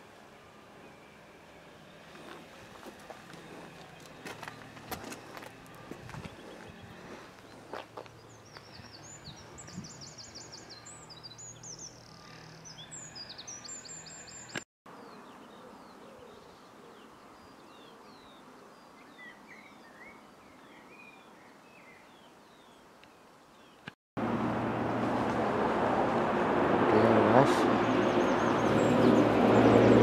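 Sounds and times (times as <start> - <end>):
songbirds twittering: 0.7 - 24.0, 26.9 - 30.0.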